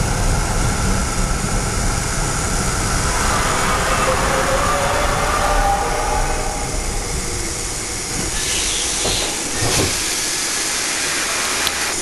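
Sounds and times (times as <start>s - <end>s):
tram rumbling on rails: 0.0s - 12.0s
hissing: 0.4s - 12.0s.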